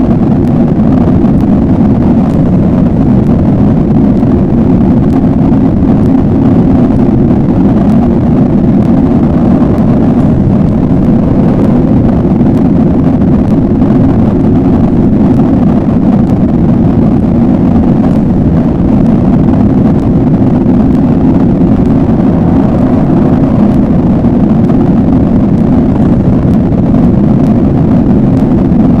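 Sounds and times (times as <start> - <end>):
dark low rumble: 0.0 - 29.0
faint crackles: 0.0 - 29.0.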